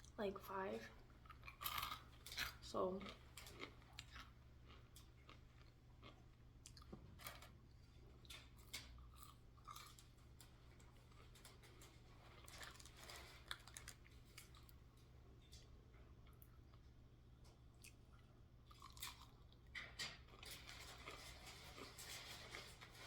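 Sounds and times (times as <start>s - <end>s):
chewing and crunching food: 0.0s - 23.0s
low steady hum: 0.0s - 23.0s.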